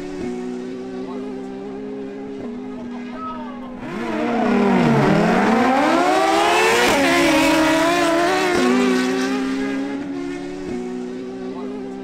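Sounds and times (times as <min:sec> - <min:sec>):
motorcycle engines at full throttle: 0:00.0 - 0:12.0.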